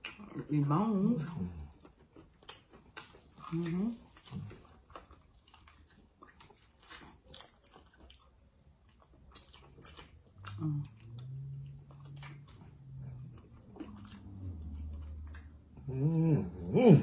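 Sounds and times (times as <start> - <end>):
chewing with wet clicks and lip smacks: 0.0 - 15.9
low steady hum: 0.0 - 17.0.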